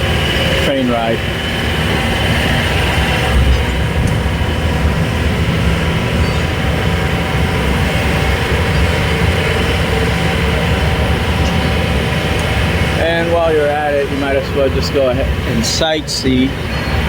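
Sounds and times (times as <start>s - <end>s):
low engine hum: 0.0s - 17.0s
train rolling noise: 0.0s - 17.0s.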